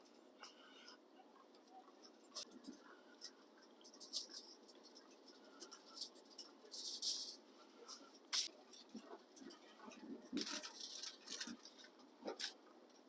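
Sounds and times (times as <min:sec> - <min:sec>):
aluminium foil crinkle: 0:01.5 - 0:13.0.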